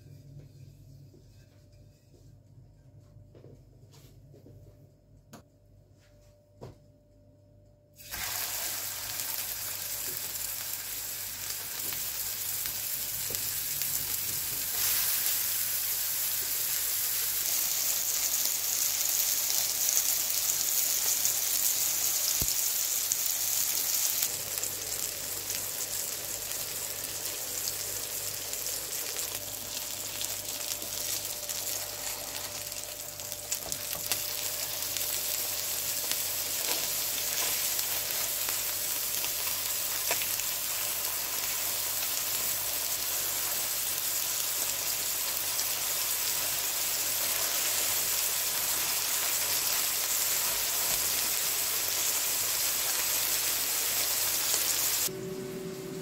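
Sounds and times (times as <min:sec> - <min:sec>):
burger patties sizzling in oil: 0:08.0 - 0:55.1.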